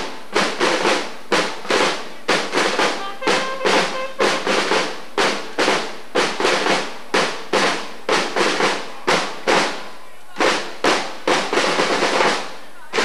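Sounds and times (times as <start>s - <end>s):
drums beating march rhythm: 0.0s - 13.0s.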